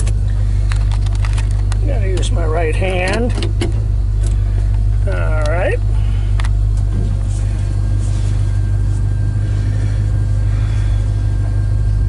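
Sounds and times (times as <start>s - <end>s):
car engine and exhaust rumble: 0.0s - 12.0s.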